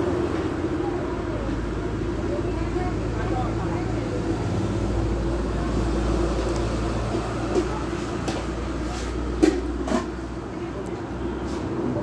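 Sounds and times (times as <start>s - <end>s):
faint distant voices: 0.0s - 12.0s
traffic hum: 0.0s - 12.0s.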